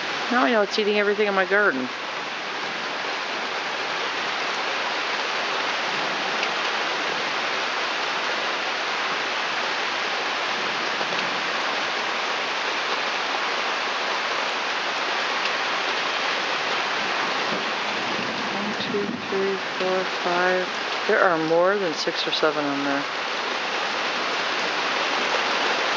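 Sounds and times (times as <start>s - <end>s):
rain on a wooden deck: 0.0s - 25.9s.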